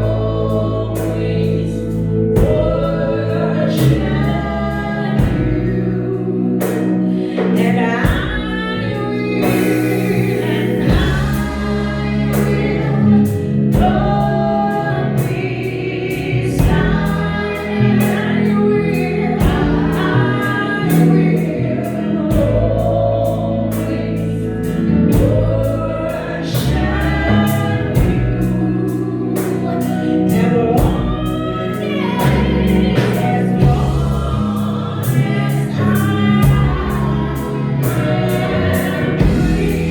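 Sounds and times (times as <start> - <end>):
bass line: 0.0 - 39.9
choir singing: 0.0 - 39.9.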